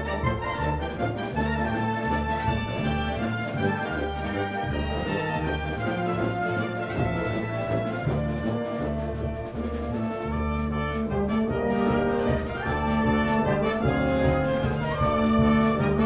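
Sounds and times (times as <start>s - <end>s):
wind band playing: 0.0s - 16.0s.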